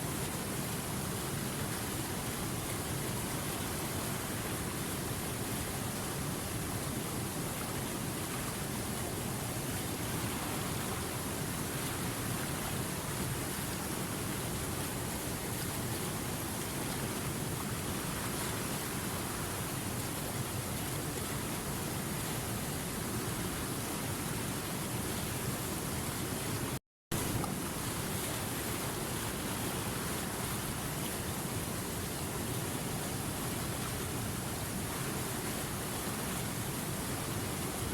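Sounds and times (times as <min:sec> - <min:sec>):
river rushing over rocks: 0:00.0 - 0:37.9.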